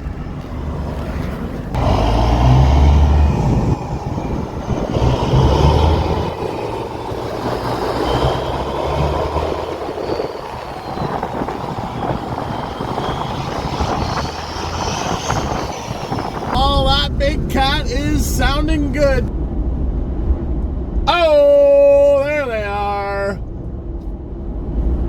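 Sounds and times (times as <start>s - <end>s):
diesel truck engine pulling: 0.0s - 25.0s.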